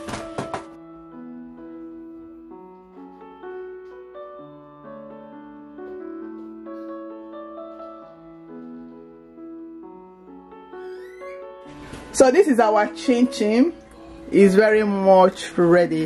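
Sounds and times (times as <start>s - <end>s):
keyboard music with held notes: 0.0s - 16.0s.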